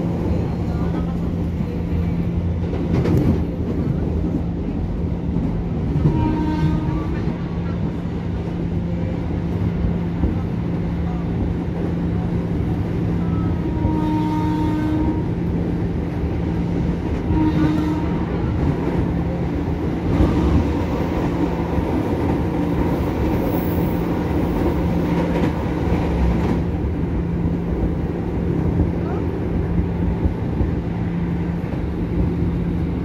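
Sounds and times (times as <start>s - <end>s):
passing train rushing: 0.0s - 33.0s
train cabin hum: 0.0s - 33.0s
wheels rumbling on rail: 0.0s - 33.0s.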